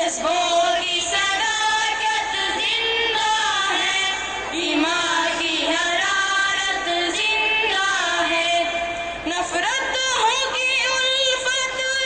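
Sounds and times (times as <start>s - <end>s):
boys singing into microphones: 0.0s - 12.0s.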